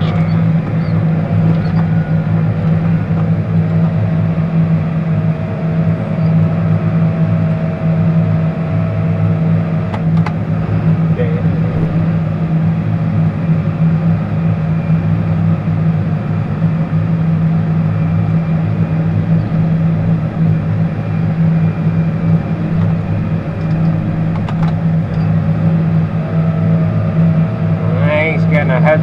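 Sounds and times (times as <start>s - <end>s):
tractor diesel engine drone: 0.0s - 29.0s.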